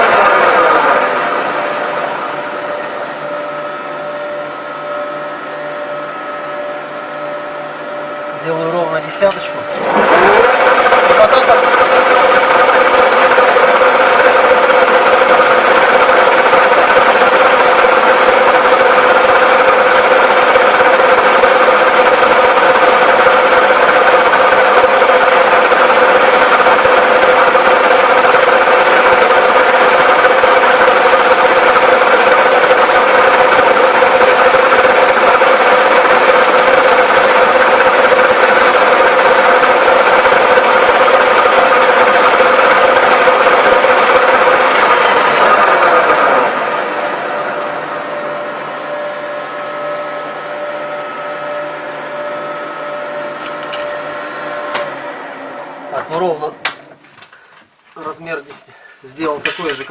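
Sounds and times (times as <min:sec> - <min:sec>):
lathe humming: 0:00.0 - 0:59.9.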